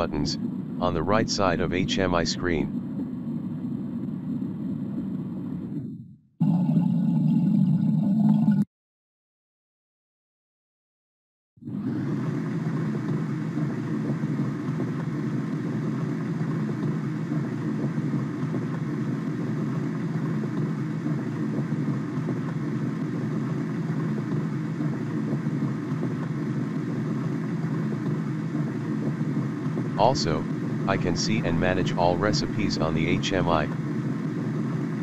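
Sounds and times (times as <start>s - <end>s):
faint hum: 0.0s - 8.3s, 11.6s - 35.0s.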